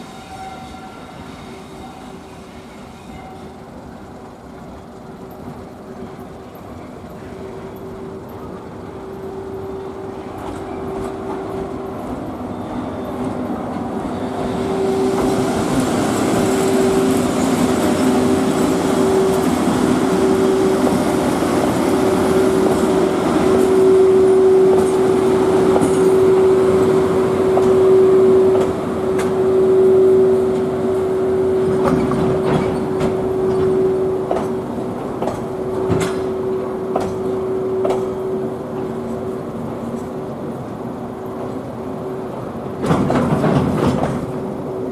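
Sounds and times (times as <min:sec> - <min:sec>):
freight train running past: 0:00.0 - 0:44.9.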